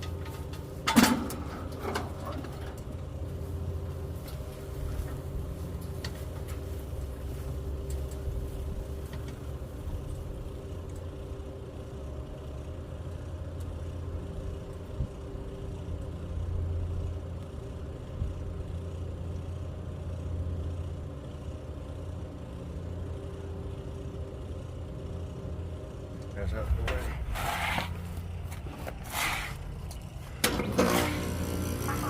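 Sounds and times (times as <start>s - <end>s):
engine droning: 0.0s - 32.0s.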